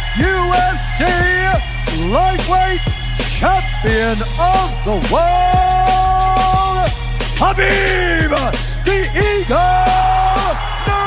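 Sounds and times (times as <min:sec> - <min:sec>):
deep steady bass: 0:00.0 - 0:11.0.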